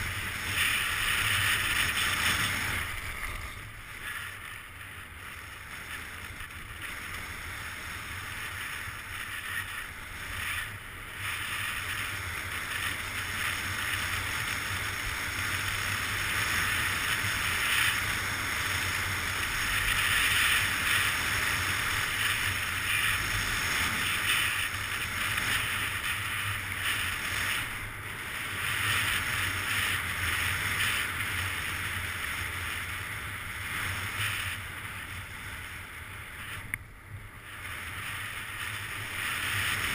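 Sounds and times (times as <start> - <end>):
skis hissing over snow: 0.0 - 39.9.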